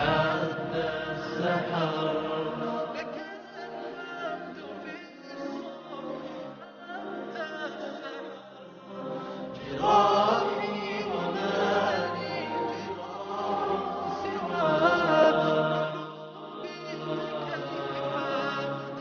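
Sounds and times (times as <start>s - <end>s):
voices singing devotional song: 0.0s - 19.0s.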